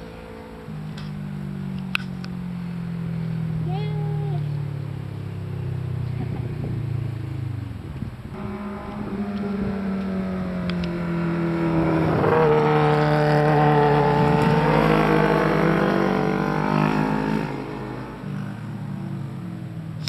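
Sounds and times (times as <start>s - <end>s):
motorcycle engine at high revs: 0.0s - 19.7s.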